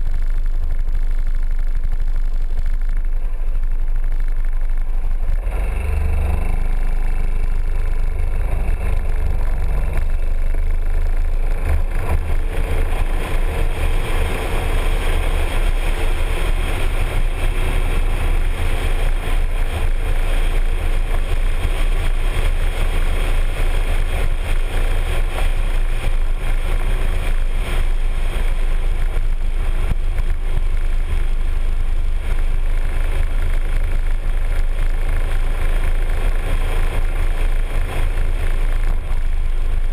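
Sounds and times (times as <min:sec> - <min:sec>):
wind noise: 0:00.0 - 0:39.9
scooter engine running: 0:01.7 - 0:39.9.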